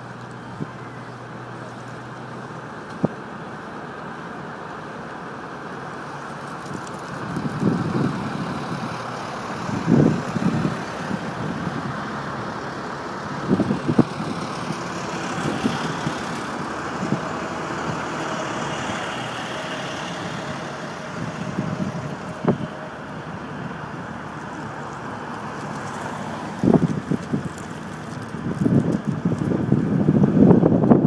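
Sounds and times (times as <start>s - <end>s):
road traffic noise: 0.0s - 31.0s
wind buffeting microphone: 5.9s - 31.0s.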